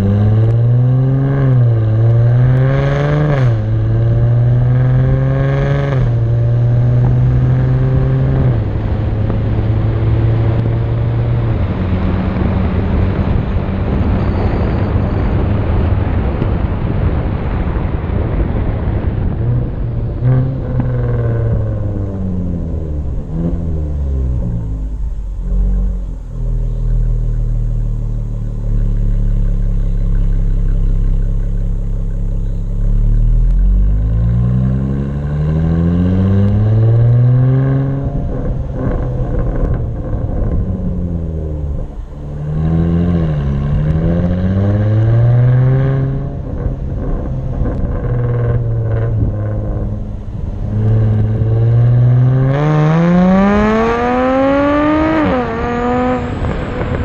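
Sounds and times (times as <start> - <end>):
car engine revving: 0.0 - 57.0
exhaust crackle: 0.0 - 57.0.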